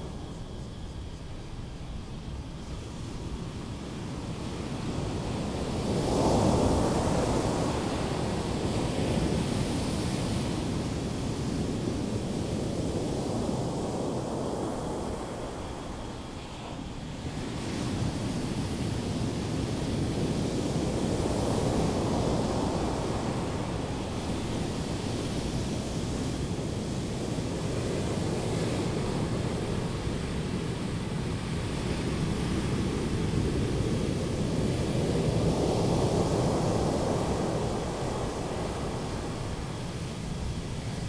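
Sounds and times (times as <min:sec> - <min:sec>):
ocean surf on sandy beach: 0:02.5 - 0:41.0.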